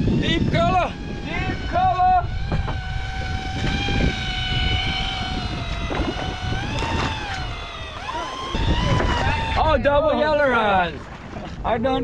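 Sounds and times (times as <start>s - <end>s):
electric fishing reel whining: 0.0s - 10.0s
boat rumble: 0.0s - 12.0s
wind: 0.0s - 12.0s.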